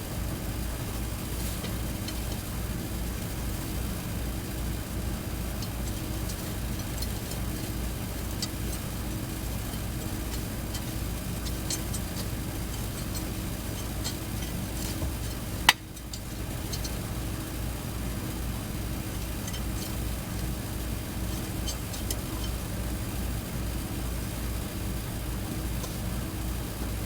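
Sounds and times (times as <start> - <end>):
low running hum: 0.0 - 27.0.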